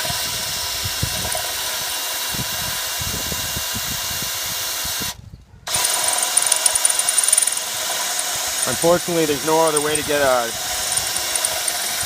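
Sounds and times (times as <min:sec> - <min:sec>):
electric drill drilling metal: 0:00.0 - 0:12.0.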